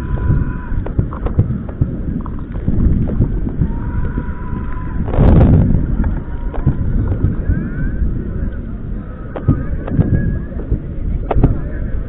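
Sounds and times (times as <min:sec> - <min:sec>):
distant fireworks popping and banging: 0:00.0 - 0:04.2, 0:04.8 - 0:12.0
steady low rumble: 0:00.0 - 0:12.0.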